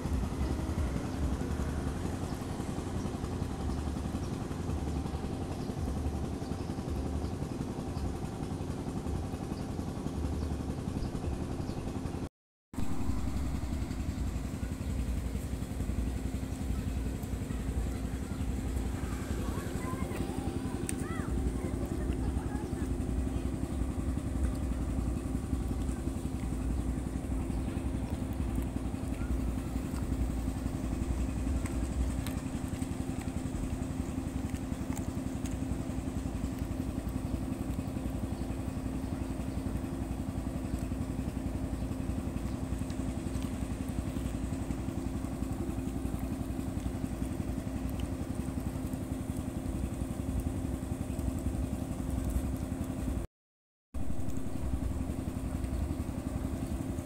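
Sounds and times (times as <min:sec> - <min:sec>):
steady mechanical hum: 0:00.0 - 0:53.3, 0:54.0 - 0:57.0.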